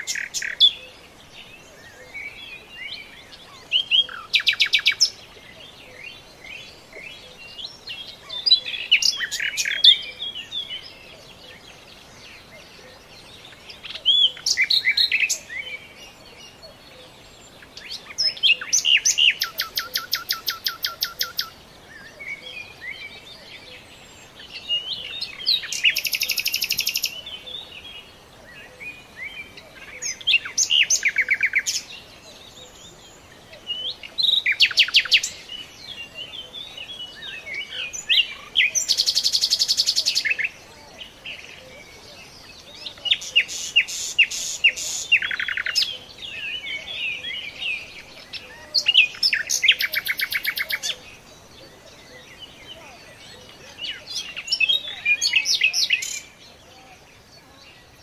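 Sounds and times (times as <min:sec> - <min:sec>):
birds chirping and twittering: 0:00.0 - 0:58.0
songbirds trilling: 0:00.0 - 0:58.0.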